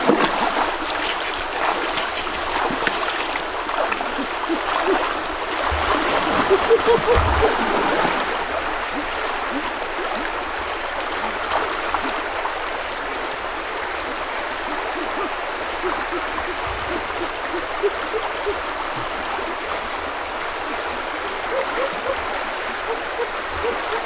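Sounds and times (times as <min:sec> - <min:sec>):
stream rushing: 0:00.0 - 0:24.0.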